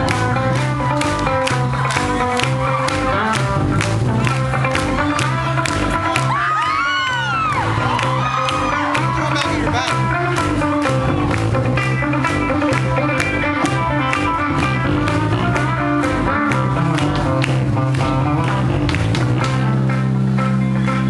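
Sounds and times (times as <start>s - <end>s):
loud rock music: 0.0s - 21.0s.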